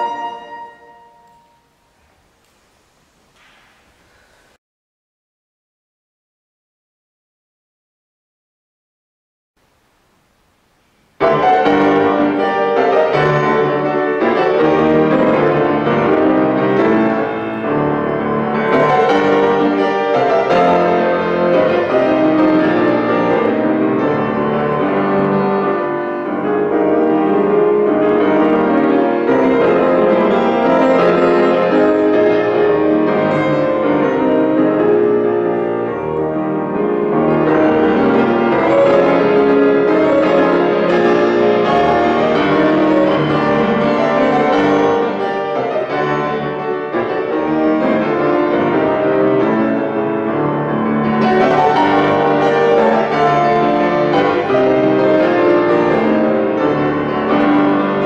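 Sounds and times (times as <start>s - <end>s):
solo classical piano: 0.0s - 4.6s, 9.6s - 58.0s.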